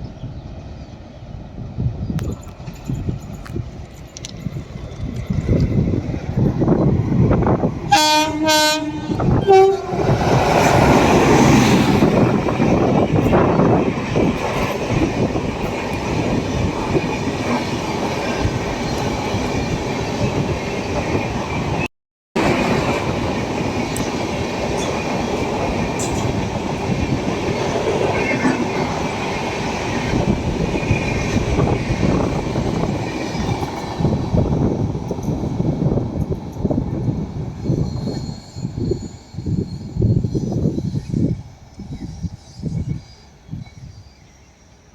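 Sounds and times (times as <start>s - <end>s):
train wheels rumbling and clattering: 0.7s - 44.3s.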